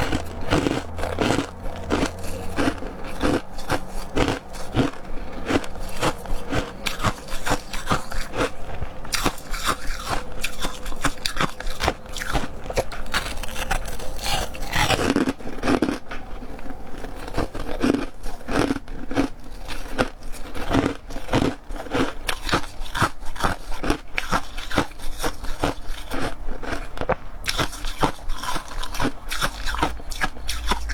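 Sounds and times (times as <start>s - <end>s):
ice crunching being chewed: 0.0s - 30.9s.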